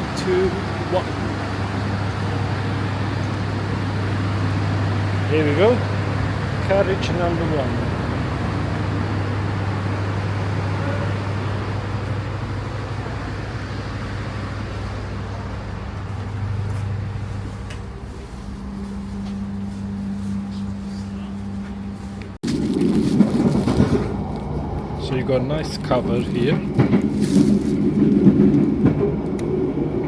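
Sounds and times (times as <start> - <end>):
higher hum: 0.0 - 30.0
train machine hum: 0.0 - 30.0.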